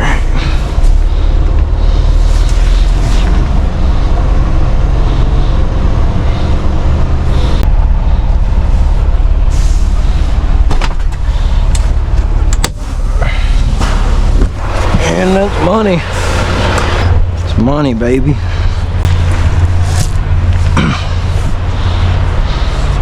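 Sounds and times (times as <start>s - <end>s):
truck diesel engine running: 0.0s - 23.0s.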